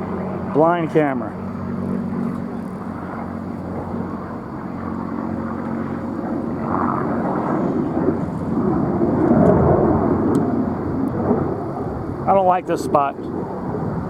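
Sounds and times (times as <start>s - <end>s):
distant aircraft engines: 0.0s - 14.0s.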